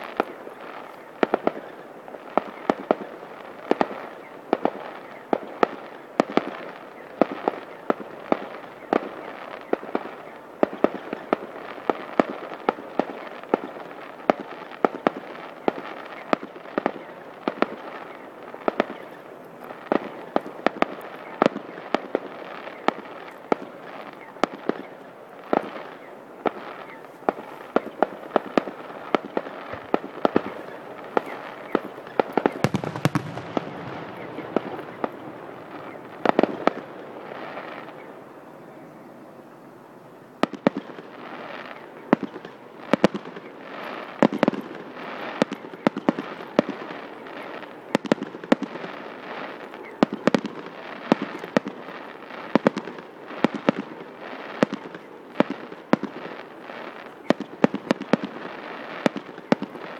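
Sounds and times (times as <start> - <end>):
fireworks bangs and cracks: 0.0 - 38.2, 40.4 - 59.9.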